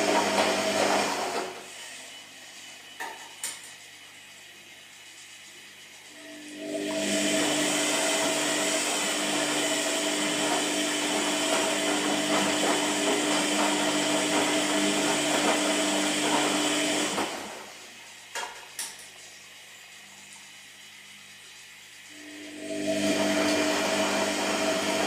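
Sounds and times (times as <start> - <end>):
washing machine motor humming: 0.0 - 18.4, 19.1 - 25.0.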